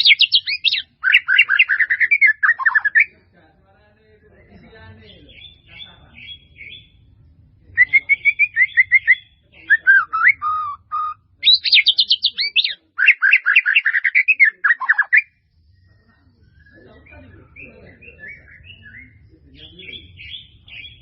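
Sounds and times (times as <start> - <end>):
songbird singing whistled song: 0.0 - 3.2, 5.3 - 7.0, 7.8 - 21.0.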